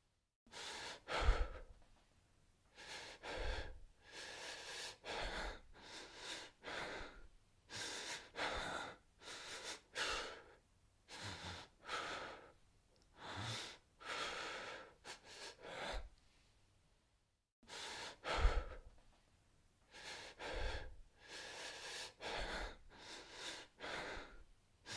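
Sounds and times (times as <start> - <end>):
man breathing fast and panicked: 0.5 - 1.8, 2.7 - 16.1, 17.6 - 19.0, 19.8 - 24.9.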